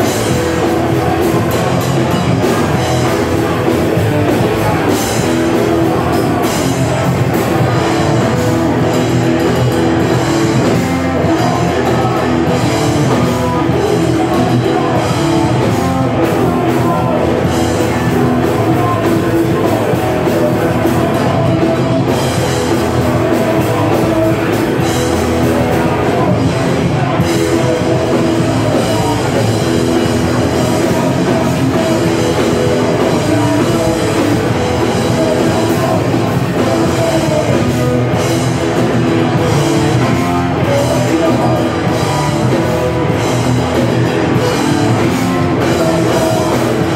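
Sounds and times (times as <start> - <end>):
distorted guitars: 0.0 - 46.9
drum kit playing: 0.0 - 46.9.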